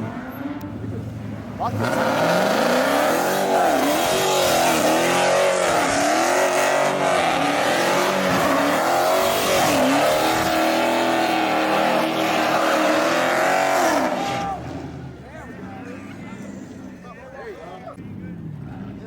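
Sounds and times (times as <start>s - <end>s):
car engine revving: 0.0s - 16.8s.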